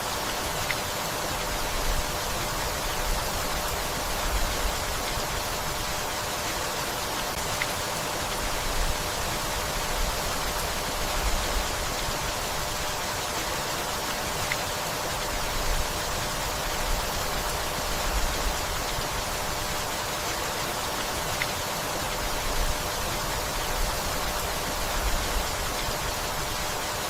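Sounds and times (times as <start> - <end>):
steady rainfall: 0.0 - 27.0.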